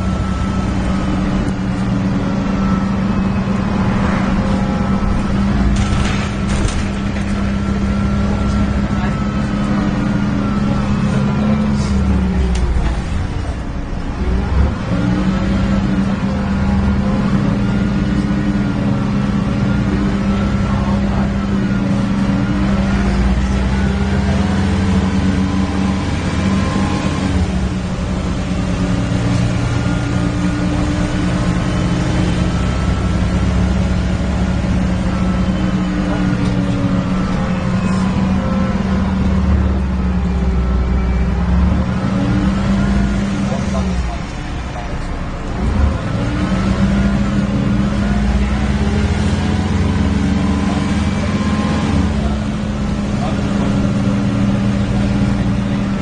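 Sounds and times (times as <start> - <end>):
bus diesel engine revving: 0.0 - 56.0
engine cooling fan drone: 0.0 - 56.0.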